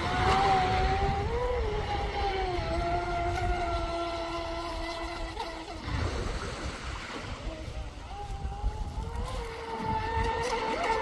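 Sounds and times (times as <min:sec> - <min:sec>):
electric boat motor whining: 0:00.0 - 0:11.0.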